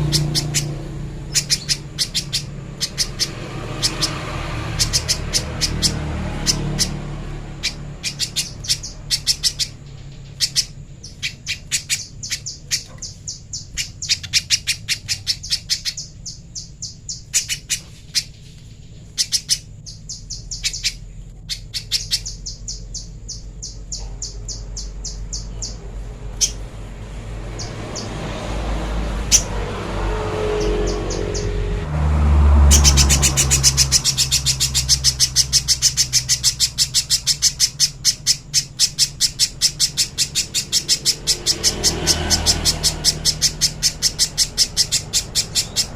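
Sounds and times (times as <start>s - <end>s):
bird calling sharp high chips: 0.0s - 31.8s, 32.6s - 45.9s.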